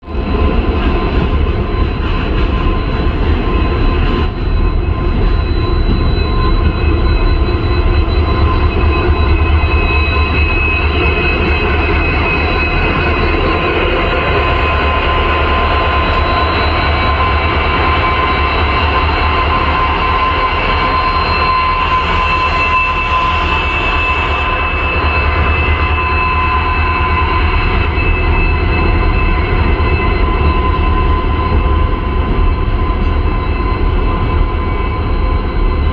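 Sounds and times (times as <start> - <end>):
diesel locomotive engines humming: 0.0 - 35.9
high whining tones: 0.1 - 35.9.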